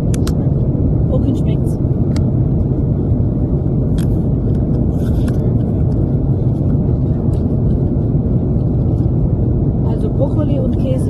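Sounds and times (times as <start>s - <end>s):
airliner cabin drone: 0.0s - 11.0s.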